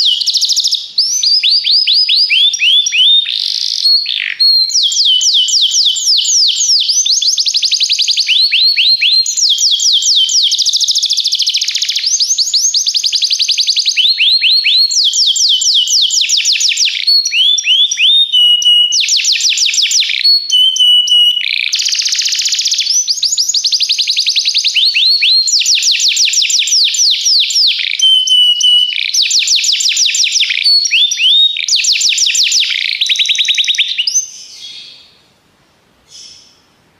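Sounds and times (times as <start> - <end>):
canary singing trills: 0.0 - 35.2, 36.1 - 36.7.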